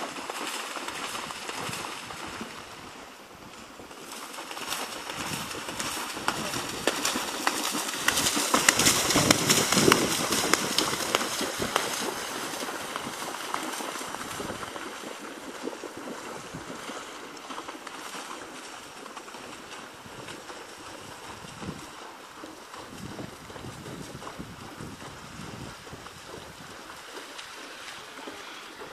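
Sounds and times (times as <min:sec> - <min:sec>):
hooves splashing through water: 0:00.0 - 0:28.9.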